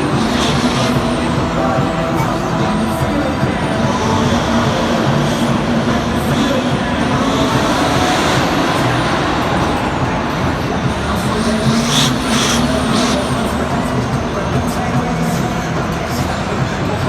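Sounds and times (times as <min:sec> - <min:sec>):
truck motor whining: 0:00.0 - 0:17.0.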